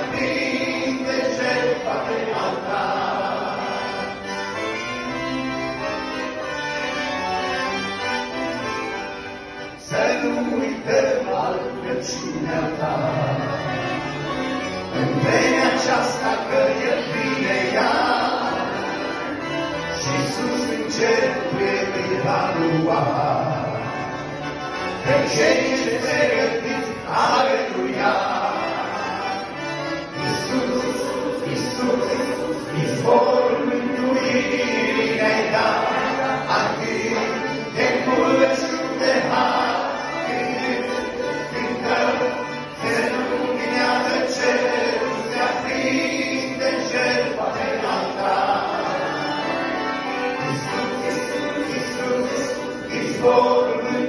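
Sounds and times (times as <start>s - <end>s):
men singing a hymn in harmony: 0.0s - 5.9s, 9.6s - 14.2s, 14.8s - 24.1s, 24.7s - 54.0s
accordion: 0.0s - 54.0s.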